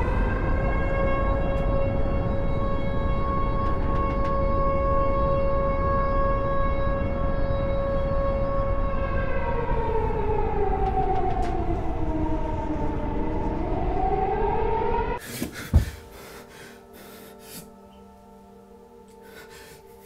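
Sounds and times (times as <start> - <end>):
air-raid siren wailing: 0.0 - 20.0.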